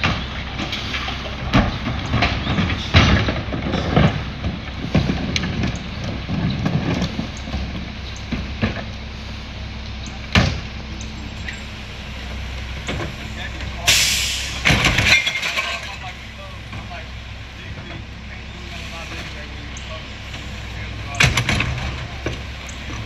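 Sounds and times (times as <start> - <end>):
garbage truck diesel engine idling: 0.0 - 23.0.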